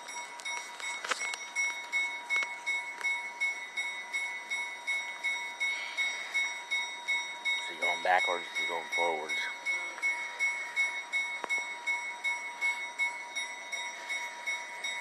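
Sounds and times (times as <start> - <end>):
railroad bell ringing: 0.0 - 15.0.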